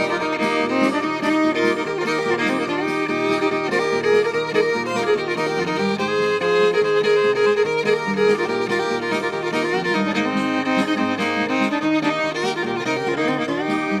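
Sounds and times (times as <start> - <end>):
fiddle melody: 0.0 - 14.0
rhythm accompaniment: 0.0 - 14.0.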